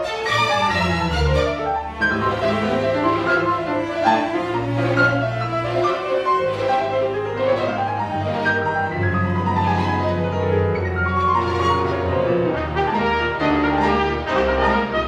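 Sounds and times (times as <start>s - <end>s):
piano: 0.0s - 15.0s
string orchestra: 0.0s - 15.0s.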